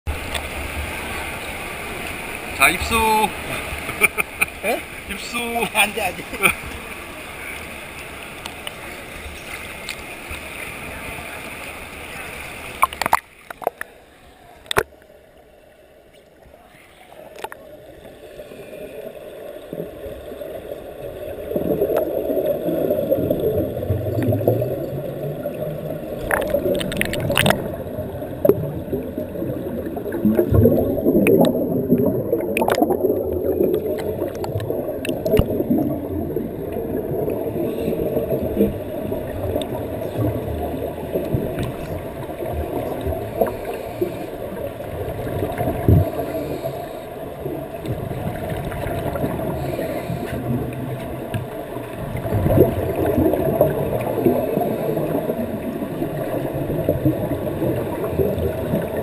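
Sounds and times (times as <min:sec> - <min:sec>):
underwater bubbles gurgling: 0:00.1 - 0:59.0.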